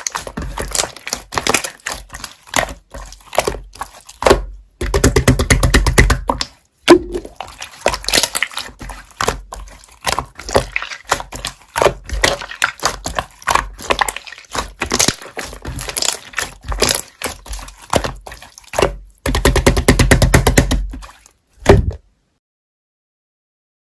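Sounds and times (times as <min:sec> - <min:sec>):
quick pressing strokes on slime: 0:00.0 - 0:21.8
slime squished by hand: 0:00.0 - 0:22.0.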